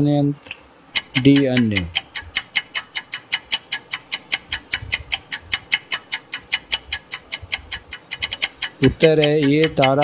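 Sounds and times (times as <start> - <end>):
clock ticking: 0.9 - 10.0.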